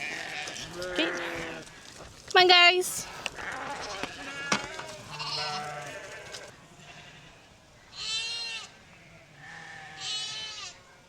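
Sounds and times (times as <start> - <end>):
sheep bleating: 0.0 - 1.9, 2.6 - 10.9.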